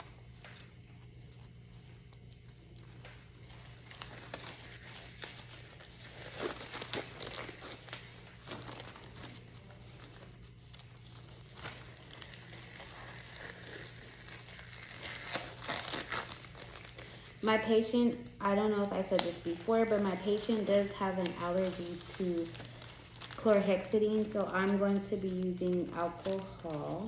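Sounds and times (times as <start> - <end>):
packaging crinkling and tearing: 0.0 - 27.0.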